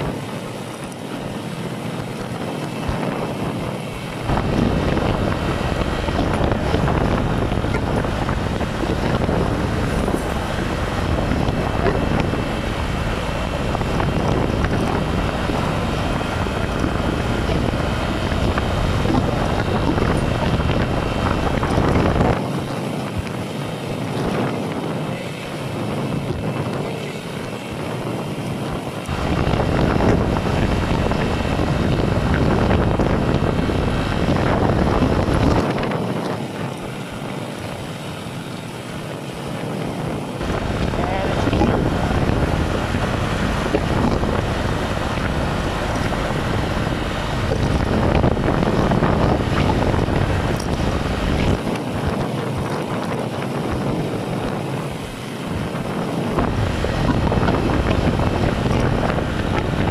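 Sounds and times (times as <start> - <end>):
motorcycle engine: 0.0 - 59.9
road noise: 0.0 - 59.9
wind rushing over microphone: 0.0 - 59.9.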